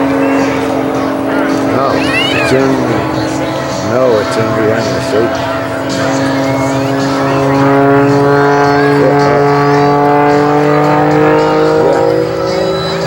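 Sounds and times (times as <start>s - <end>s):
propeller airplane engine droning: 0.0s - 13.0s.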